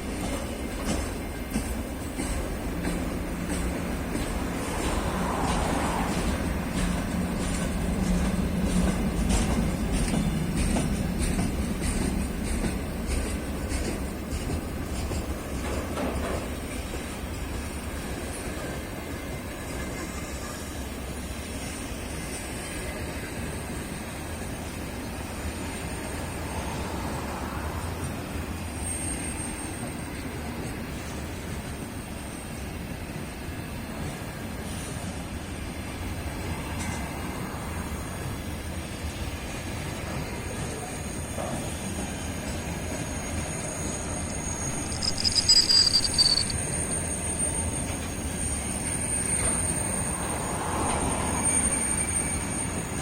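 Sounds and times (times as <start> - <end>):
freight train wagons rolling past: 0.0 - 53.0.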